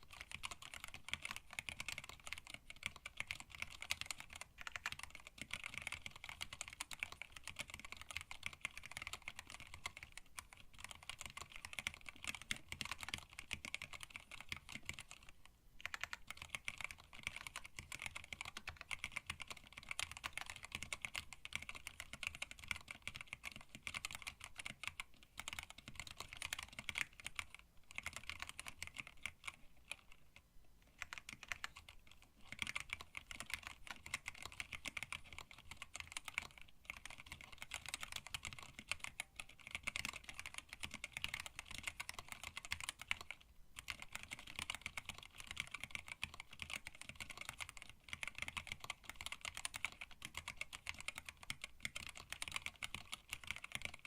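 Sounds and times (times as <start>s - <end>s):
typing on mechanical keyboard: 0.0s - 54.0s.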